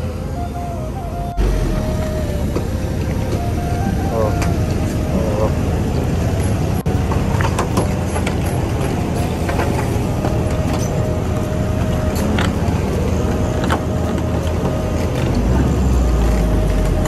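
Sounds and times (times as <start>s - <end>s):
truck diesel engine straining: 0.0s - 17.0s.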